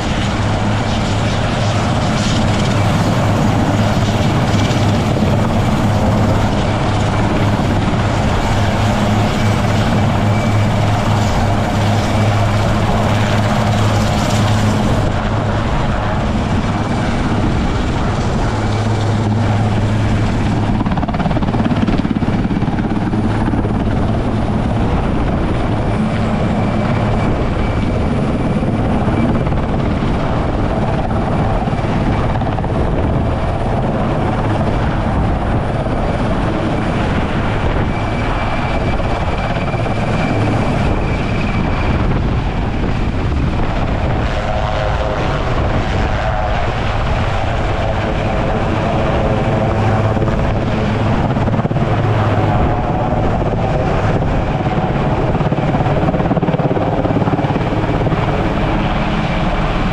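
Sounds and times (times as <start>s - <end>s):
helicopter running: 0.0s - 59.9s
high turbine whine: 0.0s - 59.9s.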